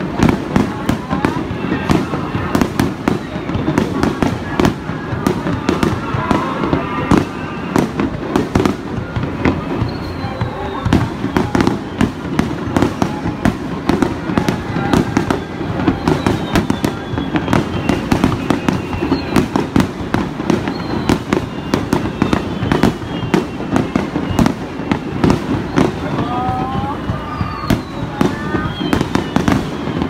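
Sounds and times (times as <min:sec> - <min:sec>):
fireworks bursting with sharp bangs: 0:00.0 - 0:30.0.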